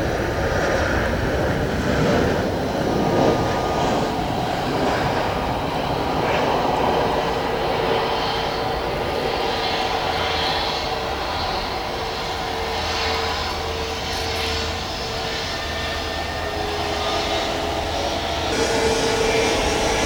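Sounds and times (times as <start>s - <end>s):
airliner engines running: 0.0s - 20.0s
high engine whine: 0.0s - 20.0s.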